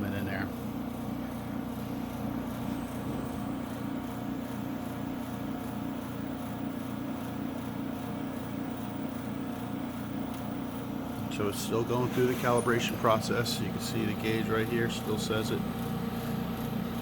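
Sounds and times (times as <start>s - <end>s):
vacuum pump mechanical hum: 0.0s - 17.0s.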